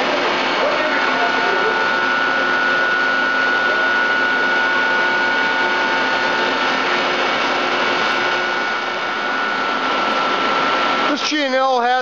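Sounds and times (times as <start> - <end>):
high steady machine whine: 0.0 - 12.0
machine hum and hiss: 0.0 - 12.0.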